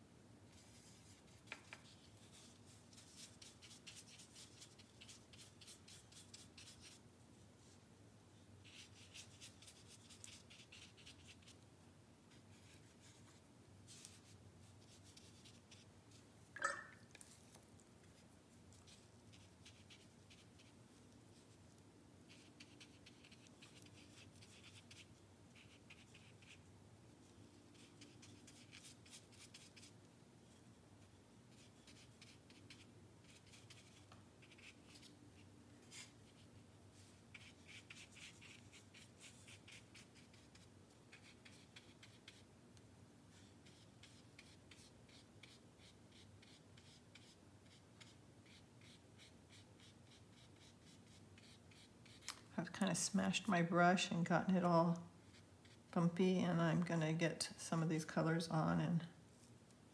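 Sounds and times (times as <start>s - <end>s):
brush dabbing on paper: 0.5s - 7.0s, 8.6s - 11.6s, 12.3s - 26.7s, 27.3s - 42.5s, 43.3s - 52.7s, 55.2s - 56.0s.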